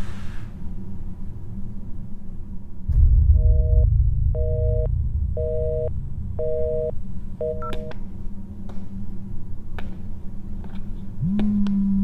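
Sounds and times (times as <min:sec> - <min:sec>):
low hum: 0:00.8 - 0:12.0.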